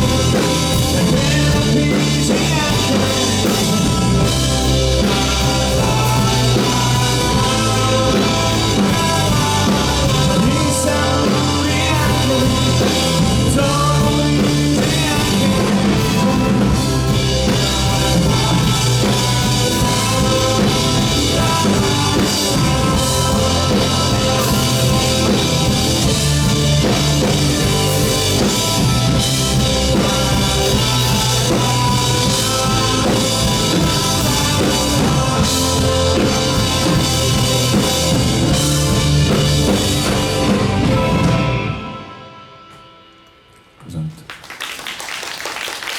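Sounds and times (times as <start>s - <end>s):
person singing: 0.0s - 41.2s
rock band playing live: 0.0s - 43.2s.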